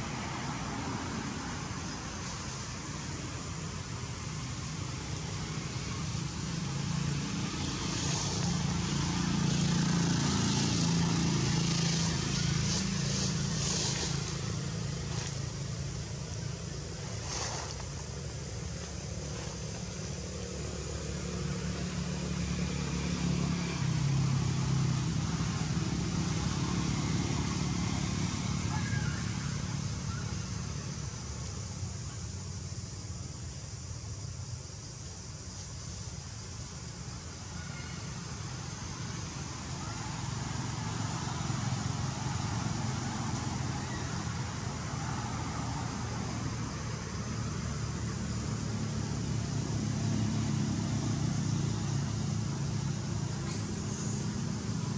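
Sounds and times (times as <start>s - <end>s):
vehicle engines humming: 0.0s - 54.9s.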